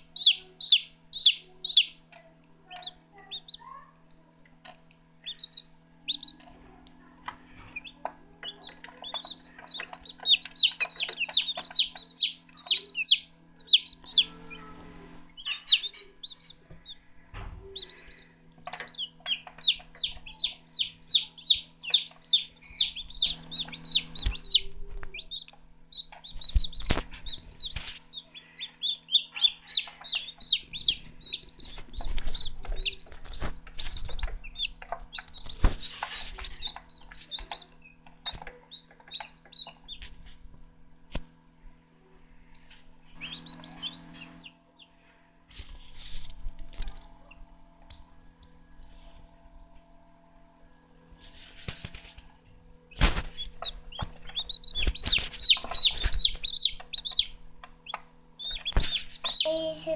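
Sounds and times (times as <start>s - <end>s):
chicks peeping: 0.0s - 50.4s, 51.0s - 59.9s.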